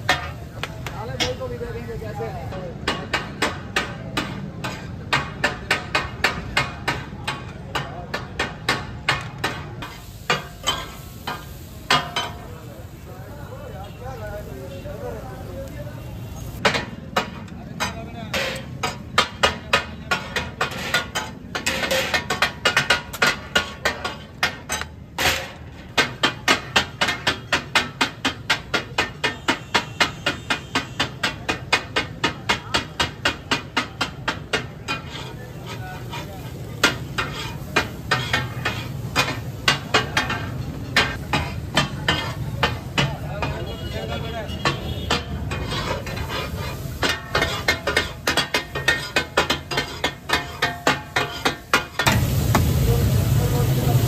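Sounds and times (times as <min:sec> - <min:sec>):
metal spatulas clattering on griddle: 0:00.0 - 0:01.8, 0:02.5 - 0:12.6, 0:16.6 - 0:52.2
background chatter: 0:00.0 - 0:27.3, 0:28.4 - 0:54.0.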